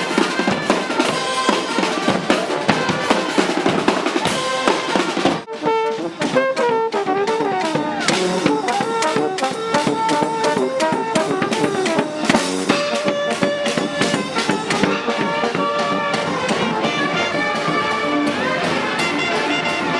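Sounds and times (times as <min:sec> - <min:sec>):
brass band playing: 0:00.0 - 0:19.9
busy drum beat: 0:00.0 - 0:19.9.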